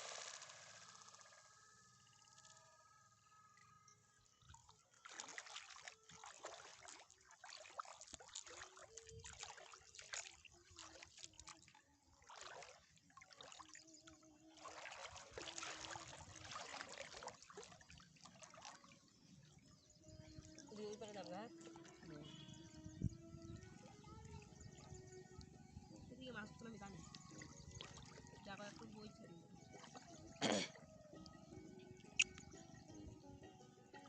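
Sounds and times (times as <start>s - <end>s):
water trickling and splashing: 0.0s - 25.2s, 26.0s - 30.8s.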